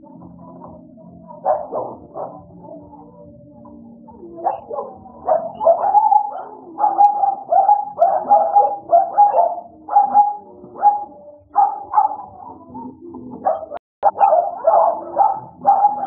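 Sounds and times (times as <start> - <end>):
dogs barking and yelping: 1.4 - 2.6, 4.3 - 16.0.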